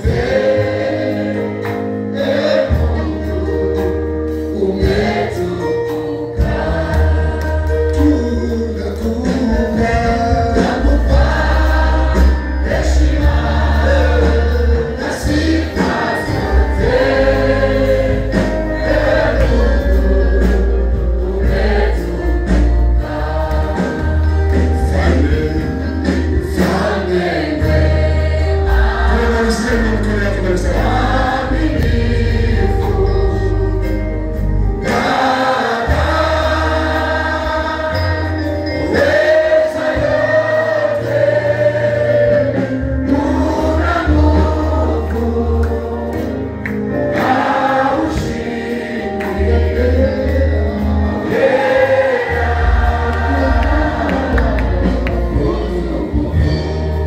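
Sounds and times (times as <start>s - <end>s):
congregation singing gospel song: 0.0s - 57.0s.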